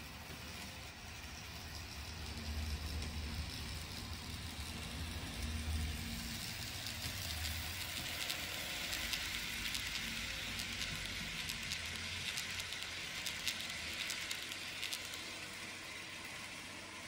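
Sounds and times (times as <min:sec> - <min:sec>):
wheels hissing on track: 0:00.0 - 0:17.0.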